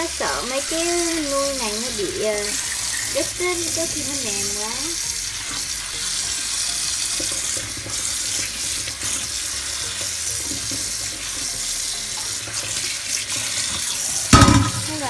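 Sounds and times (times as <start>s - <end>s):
kitchen tap running: 0.0s - 15.0s.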